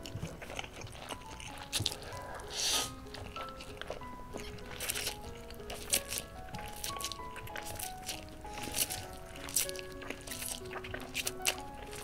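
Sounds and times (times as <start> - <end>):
noodle slurping: 0.0 - 12.0
soft background music: 0.0 - 12.0.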